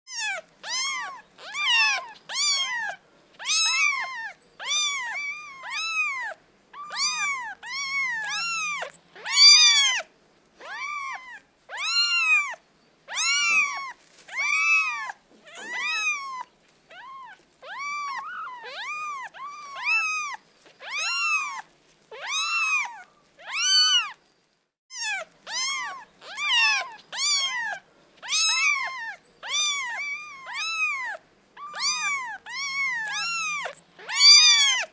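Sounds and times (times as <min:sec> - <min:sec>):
kittens mewing: 0:00.1 - 0:24.2, 0:24.9 - 0:34.9.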